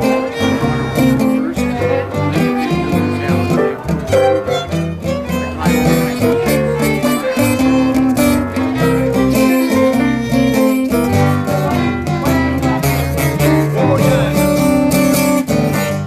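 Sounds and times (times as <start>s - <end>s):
fiddles playing blues: 0.0s - 16.0s
guitar: 0.0s - 16.0s
walking bass: 0.0s - 16.0s.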